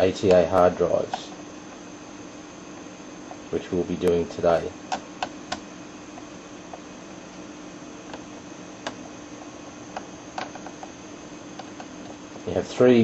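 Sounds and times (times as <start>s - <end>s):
faint hum: 0.0s - 13.0s
steady hiss: 0.0s - 13.0s.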